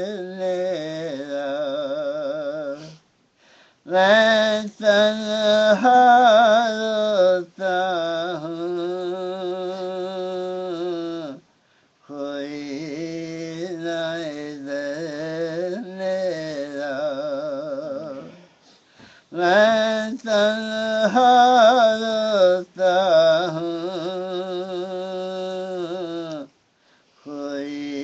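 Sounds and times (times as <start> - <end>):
man singing solo: 0.0 - 3.0, 3.8 - 11.4, 12.1 - 18.4, 19.3 - 26.5, 27.3 - 28.0.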